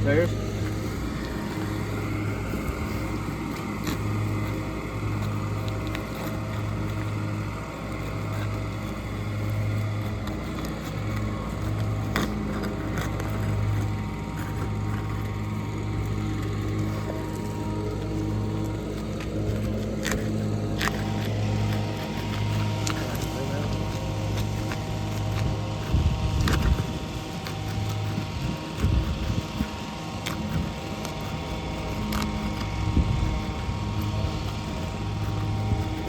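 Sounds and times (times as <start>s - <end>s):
small engine humming: 0.0s - 36.0s.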